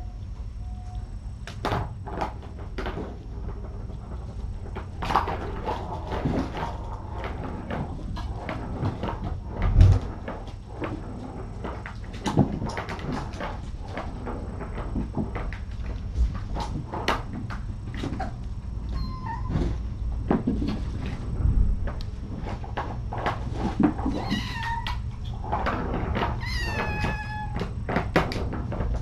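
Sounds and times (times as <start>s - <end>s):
kittens scampering on floor: 2.0s - 29.0s.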